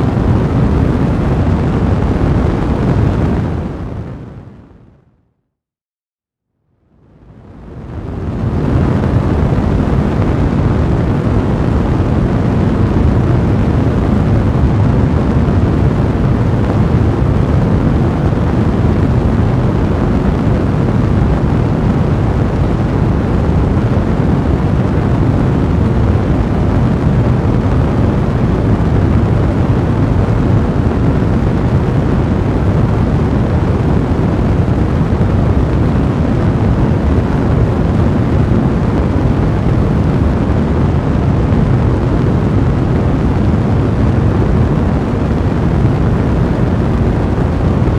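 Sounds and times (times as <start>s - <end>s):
fire roaring: 0.0s - 4.7s, 7.0s - 47.9s.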